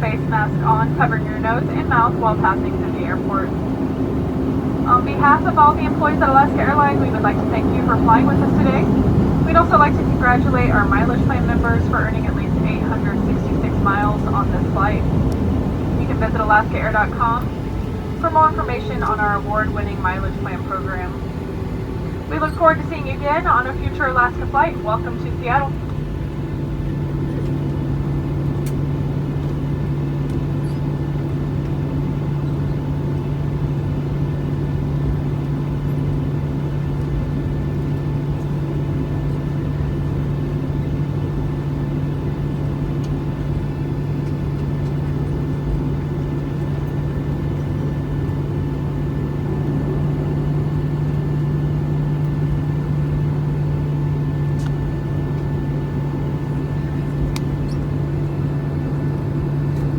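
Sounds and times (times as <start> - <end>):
airliner cabin hum: 0.0 - 59.9.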